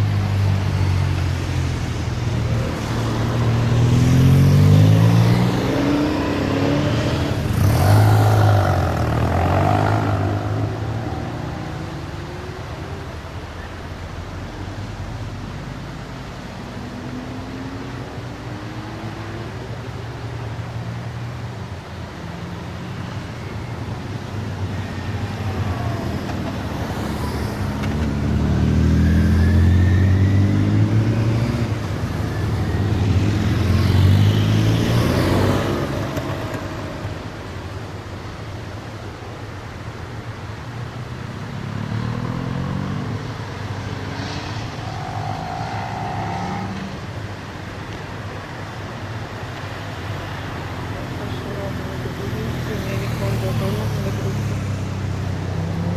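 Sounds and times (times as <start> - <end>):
car engines accelerating: 0.0 - 55.9.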